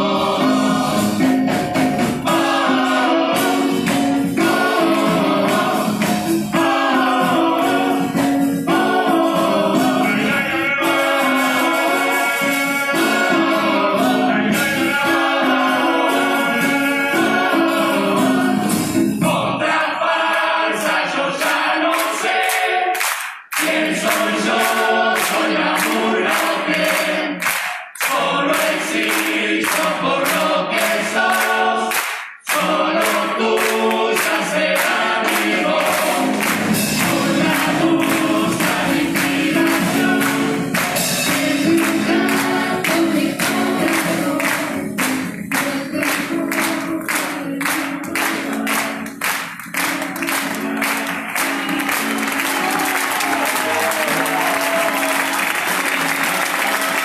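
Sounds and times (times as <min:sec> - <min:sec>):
steady percussion beat: 0:00.0 - 0:19.6, 0:23.1 - 0:57.0
chorus singing in harmony: 0:00.0 - 0:57.0.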